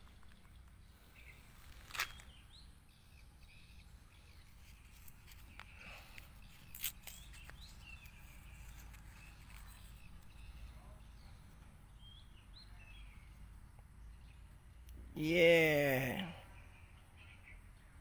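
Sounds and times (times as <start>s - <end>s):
faint background ambience: 0.0s - 18.0s.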